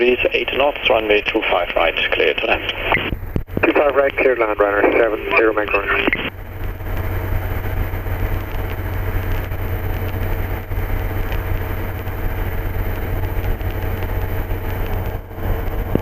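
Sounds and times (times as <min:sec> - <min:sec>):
ultralight engine drone: 0:00.0 - 0:16.0.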